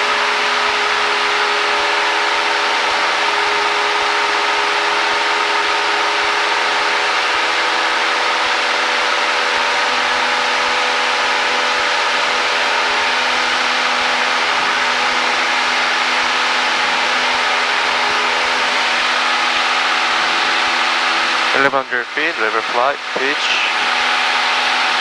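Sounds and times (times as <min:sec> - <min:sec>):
airplane engine and propeller: 0:00.0 - 0:25.0.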